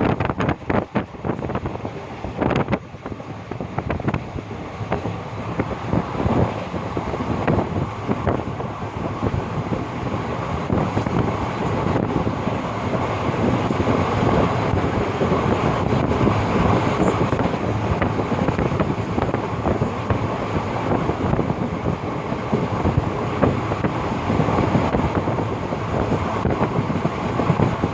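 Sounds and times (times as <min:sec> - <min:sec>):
train rumbling on track: 0:00.0 - 0:27.9
wheels rattling and clicking: 0:00.0 - 0:27.9.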